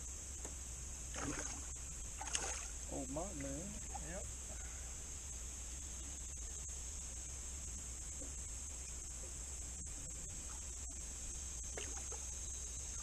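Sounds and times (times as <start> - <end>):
insects chirping: 0.0 - 13.0
low steady rumble: 0.0 - 13.0.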